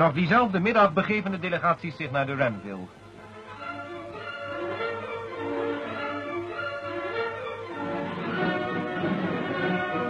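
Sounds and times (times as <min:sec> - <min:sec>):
orchestral music led by strings: 0:00.0 - 0:10.0.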